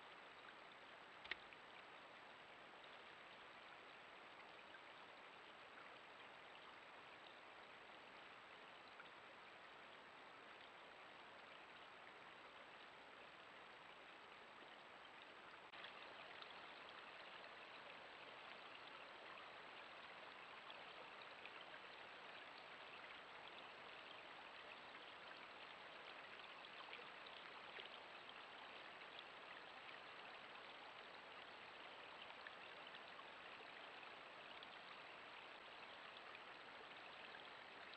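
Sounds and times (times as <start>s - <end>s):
water trickling: 0.0s - 37.9s.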